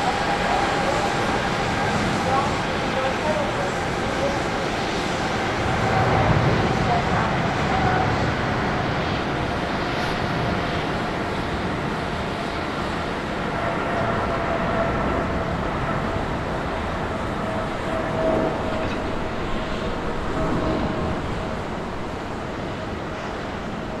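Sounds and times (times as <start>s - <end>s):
jet engine roar at takeoff: 0.0s - 24.0s.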